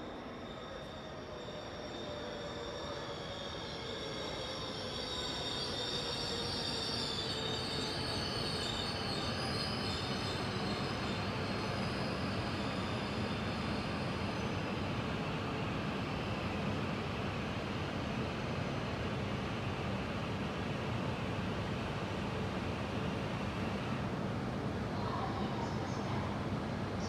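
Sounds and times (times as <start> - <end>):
high speed train roaring past: 0.0 - 27.0.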